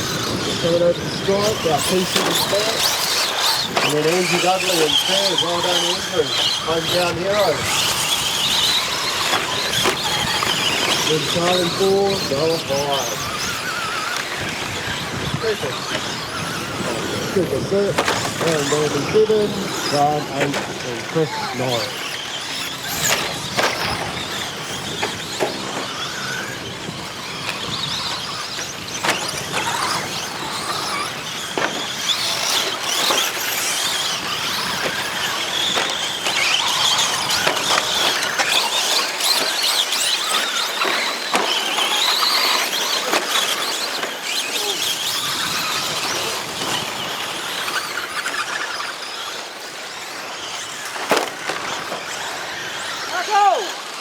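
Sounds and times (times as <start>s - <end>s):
electric motors whining: 0.0s - 54.0s
knocks from landings: 0.1s - 48.8s.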